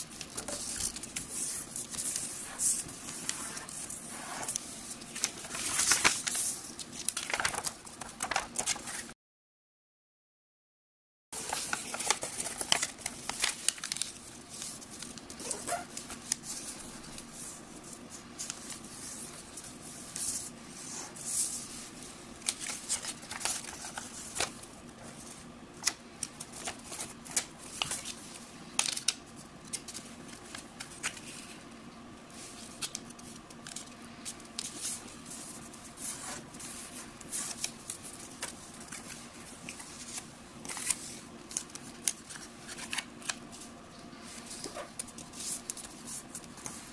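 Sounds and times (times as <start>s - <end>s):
paper rustling and folding: 0.0s - 9.1s, 11.4s - 31.6s, 32.3s - 46.9s.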